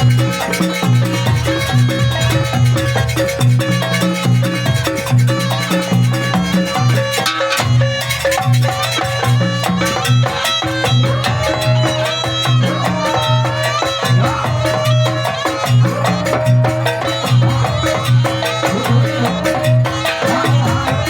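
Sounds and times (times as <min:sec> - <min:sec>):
gamelan music: 0:00.0 - 0:21.0.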